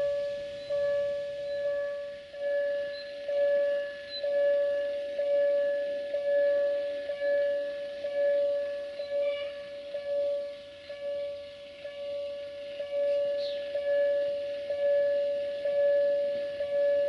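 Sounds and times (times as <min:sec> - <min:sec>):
level-crossing warning bell: 0:00.0 - 0:17.0.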